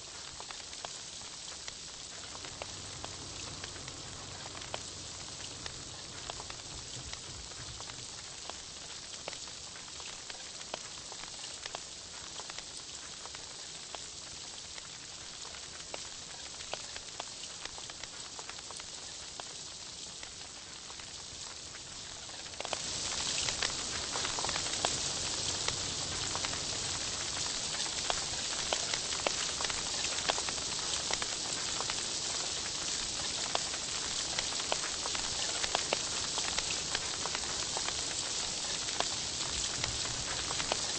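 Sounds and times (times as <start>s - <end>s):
meat sizzling on a grill: 0.0s - 40.9s.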